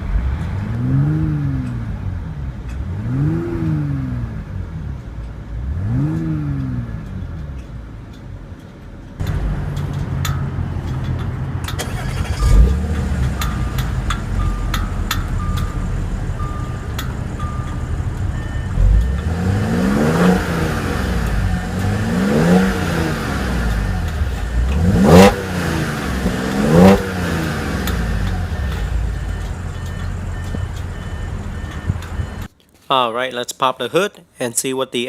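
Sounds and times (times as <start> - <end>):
car engine idling and revving: 0.0 - 32.6.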